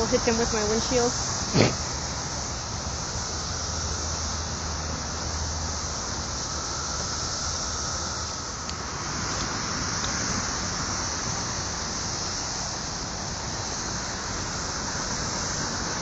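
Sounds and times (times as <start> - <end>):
cicadas singing: 0.0 - 16.0.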